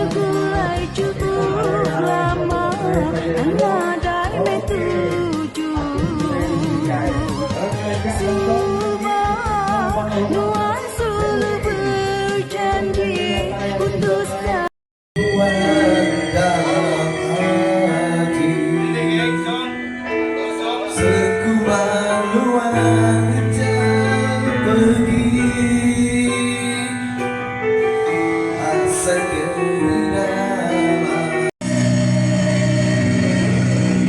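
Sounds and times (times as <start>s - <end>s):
person singing: 0.0s - 7.7s, 8.3s - 34.0s
instrumental backing music: 0.0s - 34.0s.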